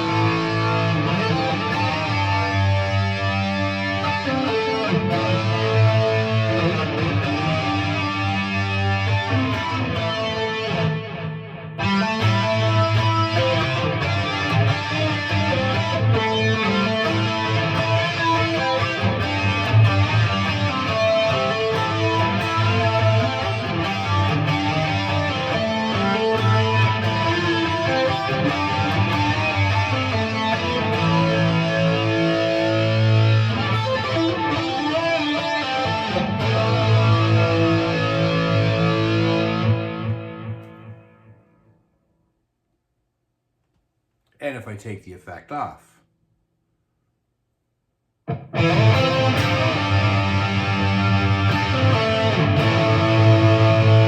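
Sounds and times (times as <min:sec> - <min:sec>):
distorted electric guitar riff: 0:00.0 - 0:41.6, 0:48.3 - 0:54.0.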